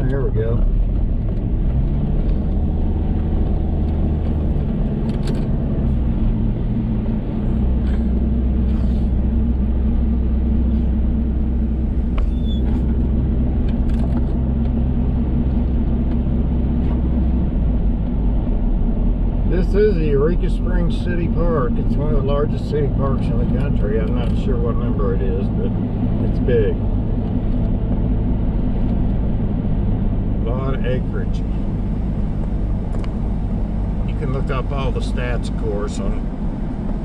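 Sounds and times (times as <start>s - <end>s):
car engine and tyre hum: 0.0s - 37.0s.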